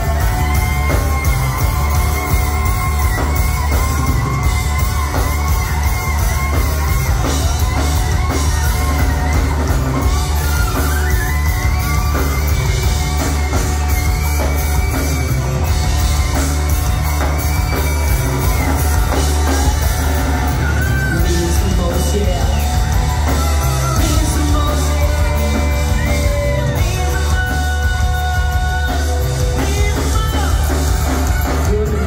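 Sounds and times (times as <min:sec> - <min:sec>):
drums: 0:00.0 - 0:32.0
electric guitars: 0:00.0 - 0:32.0
heavy bass: 0:00.0 - 0:32.0
keyboards: 0:00.0 - 0:32.0.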